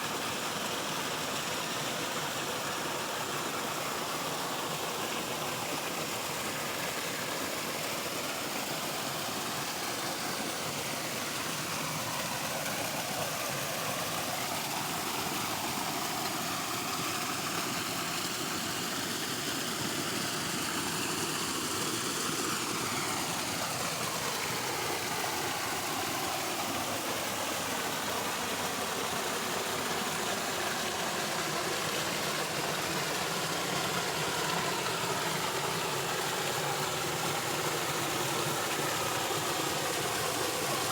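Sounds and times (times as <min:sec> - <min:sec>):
rush of running water: 0:00.0 - 0:40.9.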